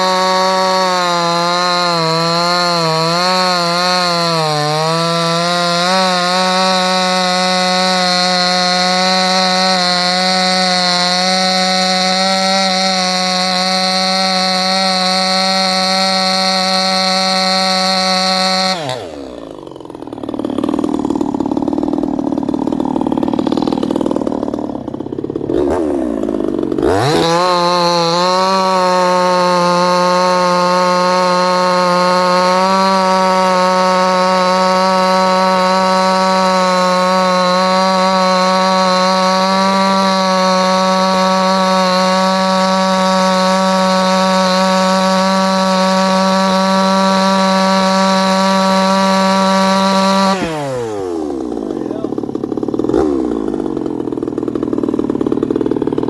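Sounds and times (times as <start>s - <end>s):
chainsaw cutting hard wood: 0.0s - 56.0s.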